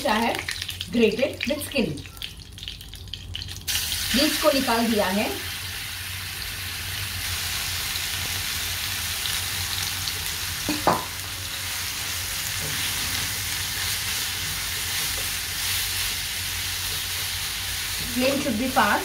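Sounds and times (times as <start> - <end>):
apple sizzling in hot oil: 0.0 - 19.0.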